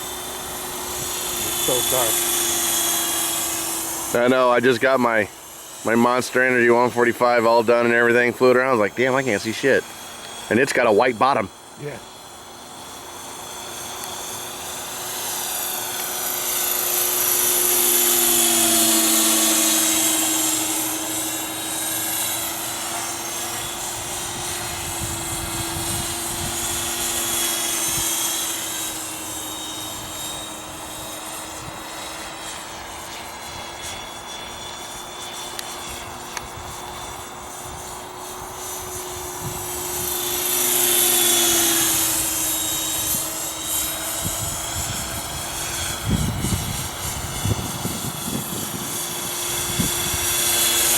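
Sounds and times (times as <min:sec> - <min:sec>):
model helicopter rotor whine: 0:00.0 - 0:50.9.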